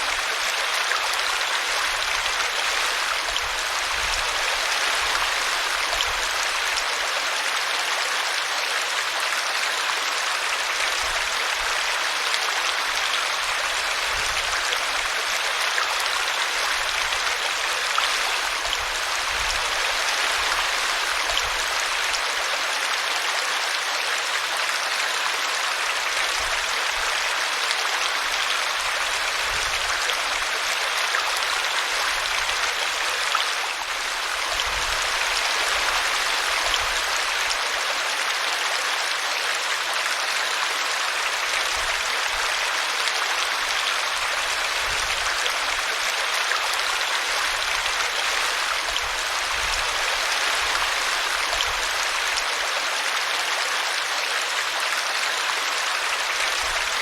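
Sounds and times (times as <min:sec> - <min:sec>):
brook water flowing: 0:00.0 - 0:57.0.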